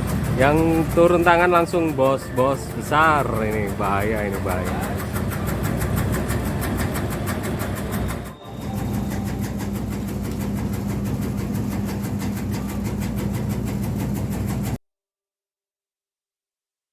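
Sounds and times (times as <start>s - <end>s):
small engine running: 0.0s - 14.8s.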